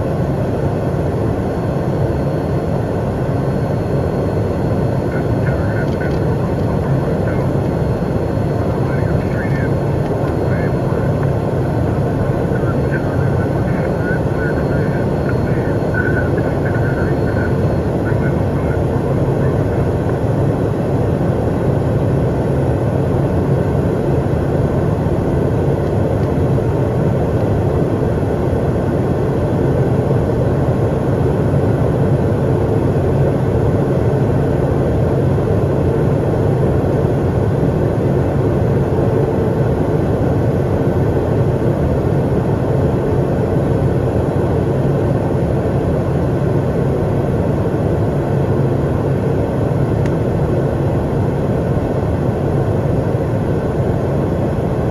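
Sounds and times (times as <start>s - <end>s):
jet cockpit airflow and engine hum: 0.0s - 54.9s.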